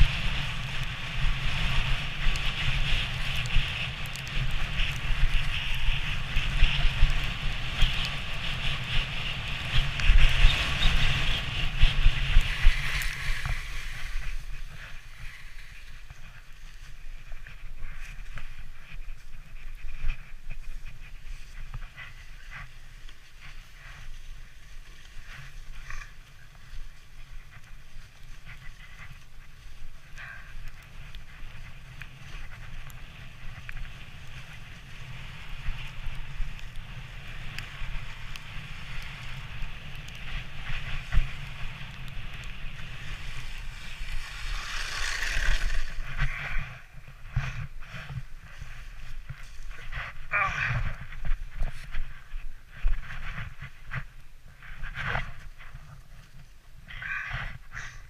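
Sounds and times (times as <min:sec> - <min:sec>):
sledge runners scraping snow: 0:00.0 - 0:57.6
wind on microphone: 0:00.0 - 0:58.0.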